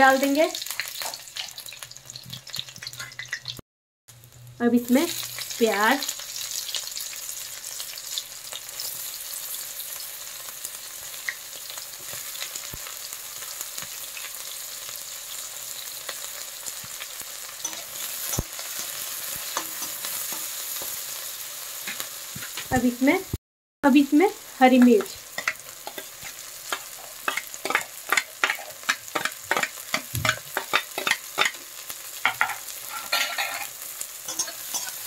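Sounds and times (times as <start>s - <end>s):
onions sizzling in oil: 0.0s - 35.0s.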